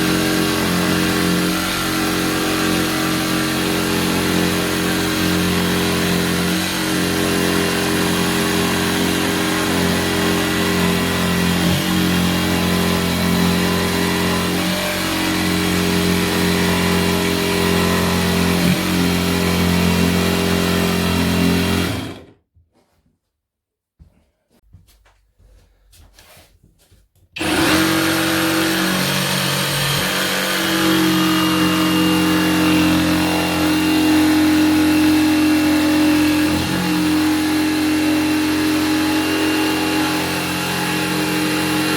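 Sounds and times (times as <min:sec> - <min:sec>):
jigsaw cutting worktop: 0:00.0 - 0:22.4, 0:27.4 - 0:41.9.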